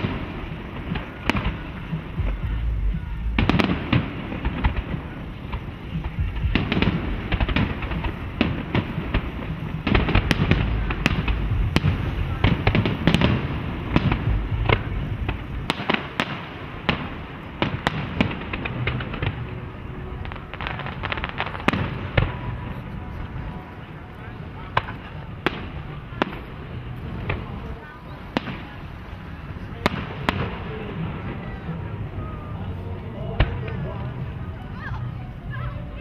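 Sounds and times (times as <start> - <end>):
fireworks bursting: 0.0 - 36.0
fireworks crackling: 0.0 - 36.0
rumbling background: 0.0 - 36.0.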